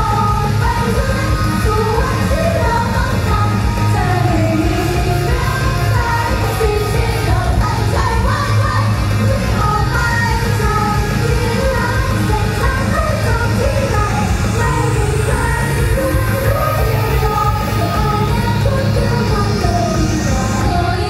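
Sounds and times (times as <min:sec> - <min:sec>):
lead vocal singing: 0:00.0 - 0:21.0
pop backing music with heavy bass: 0:00.0 - 0:21.0.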